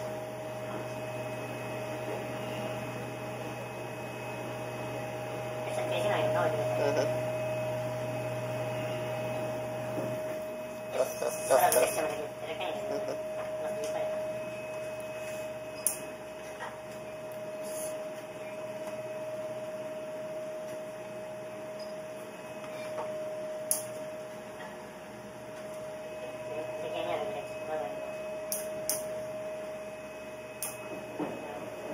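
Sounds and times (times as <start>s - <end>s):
high whine: 0.0s - 31.9s
ship machinery hum: 0.0s - 31.9s.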